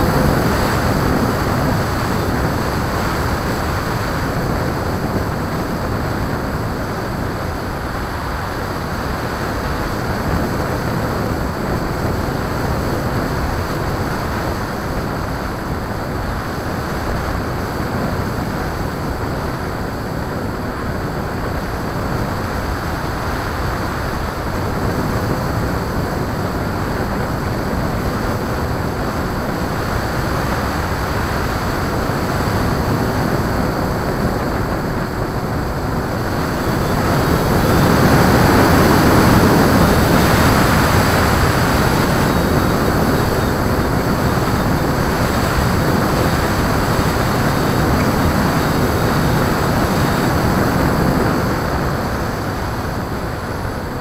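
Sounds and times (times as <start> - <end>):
propeller noise: 0.0 - 54.0
wind rushing: 0.0 - 54.0.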